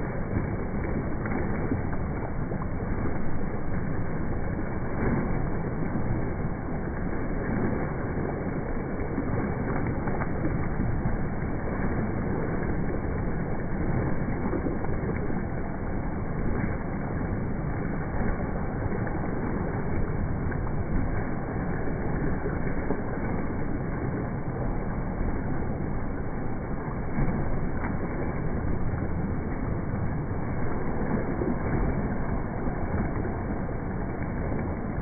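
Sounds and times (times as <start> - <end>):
water splashing from kicking: 0.0 - 35.0.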